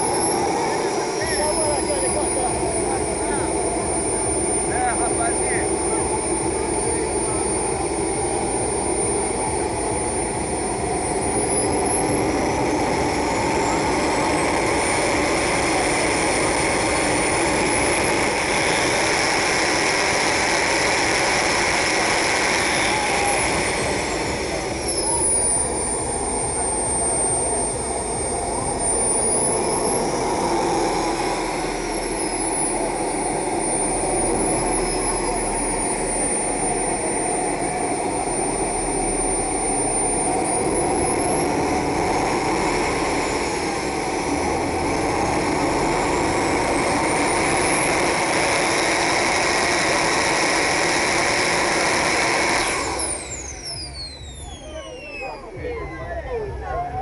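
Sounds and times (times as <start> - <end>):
small jet engine whine: 0.0 - 57.0.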